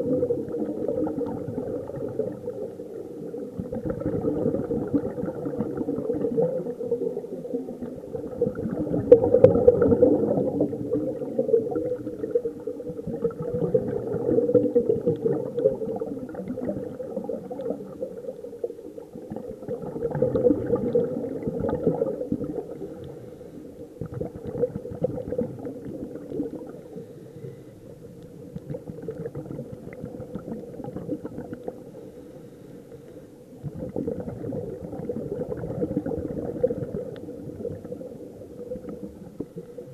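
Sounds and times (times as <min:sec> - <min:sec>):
underwater breath bubbling: 0:00.0 - 0:39.9.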